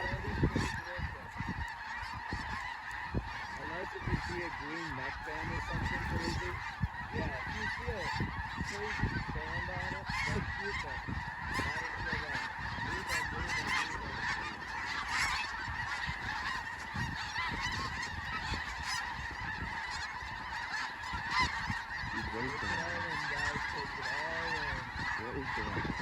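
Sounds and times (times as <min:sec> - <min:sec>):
flock of geese honking: 0:00.0 - 0:26.0.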